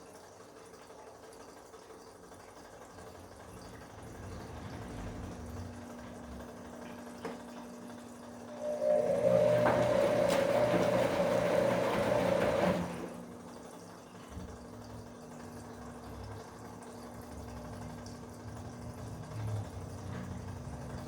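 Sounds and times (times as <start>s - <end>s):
washing machine water rushing: 0.0s - 21.0s.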